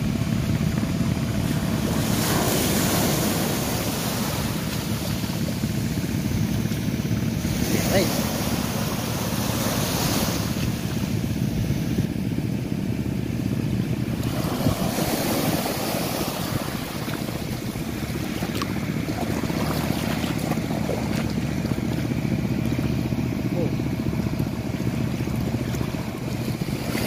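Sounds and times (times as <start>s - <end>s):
small waves breaking on sand: 0.0s - 27.0s
wind rumbling on microphone: 0.0s - 27.0s.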